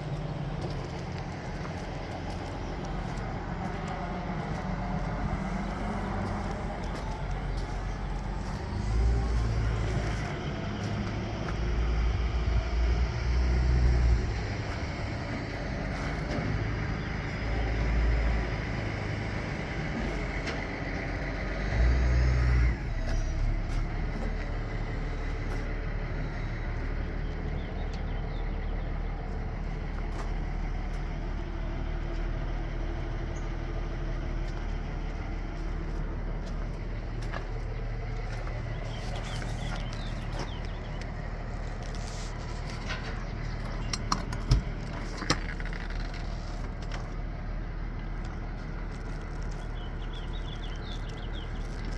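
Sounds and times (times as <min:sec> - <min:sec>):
diesel truck engine revving and idling: 0:00.0 - 0:51.9.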